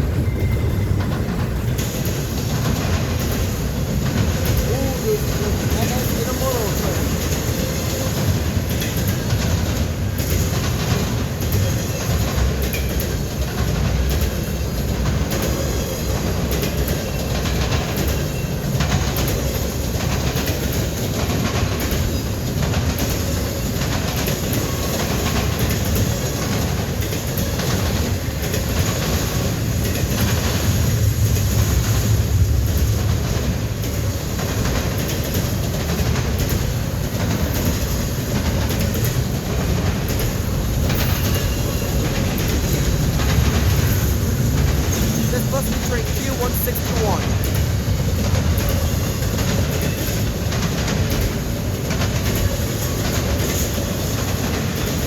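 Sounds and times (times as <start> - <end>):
freight train rumble: 0.0 - 55.0
train wheels clicking and clacking: 0.0 - 55.0.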